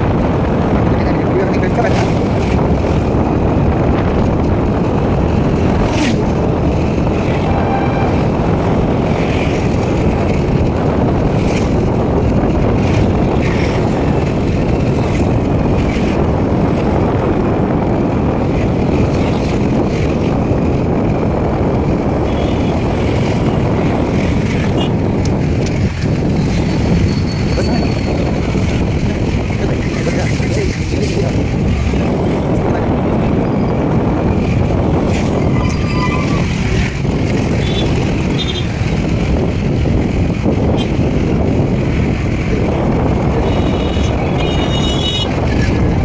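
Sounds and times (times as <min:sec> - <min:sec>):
vehicle and wind rumble: 0:00.0 - 0:46.0.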